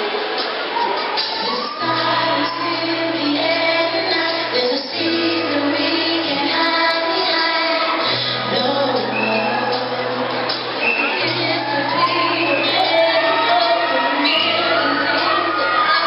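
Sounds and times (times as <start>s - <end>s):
band playing: 0.0s - 16.0s
female vocal group singing: 1.4s - 16.0s.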